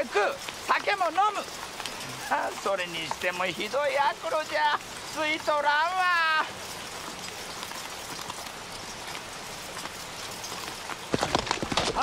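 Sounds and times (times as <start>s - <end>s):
heavy rain: 0.0s - 12.0s
horse hooves clopping: 0.0s - 12.0s.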